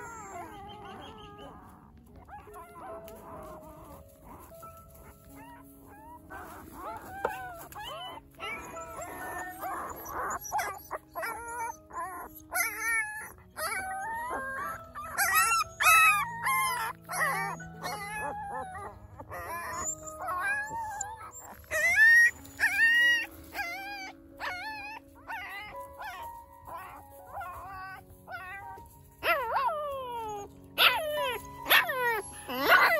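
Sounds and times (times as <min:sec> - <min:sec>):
puppies whining and squealing: 0:00.0 - 0:32.9
soft background music: 0:00.0 - 0:32.9.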